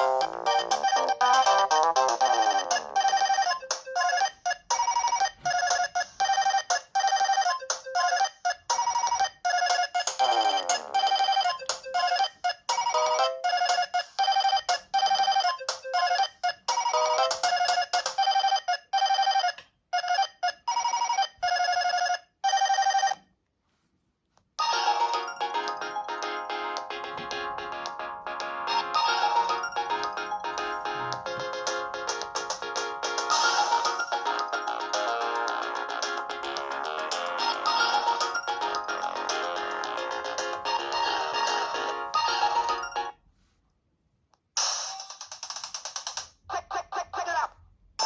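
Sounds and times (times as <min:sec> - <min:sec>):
synthesized phone ringtone melody: 0:00.0 - 0:23.2, 0:24.6 - 0:43.2.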